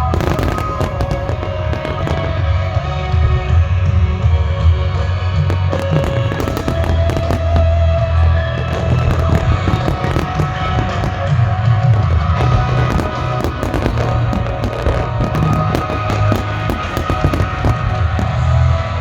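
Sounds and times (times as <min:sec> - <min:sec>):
fireworks bursting and crackling: 0:00.0 - 0:03.8, 0:04.4 - 0:19.0
loud music: 0:00.0 - 0:19.0.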